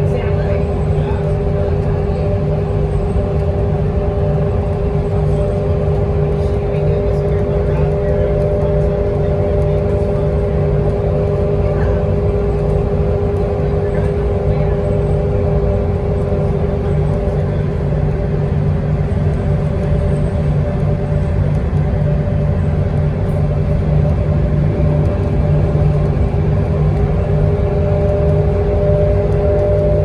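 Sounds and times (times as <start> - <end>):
bus engine and road rumble: 0.0 - 30.0
mid-pitched hum: 0.0 - 30.0.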